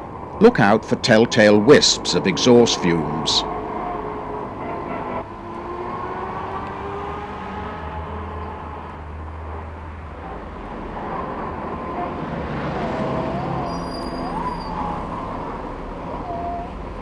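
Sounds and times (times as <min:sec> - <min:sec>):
diesel engine rumbling: 0:00.0 - 0:17.0
wavering high squeal: 0:01.1 - 0:09.6, 0:10.2 - 0:16.8.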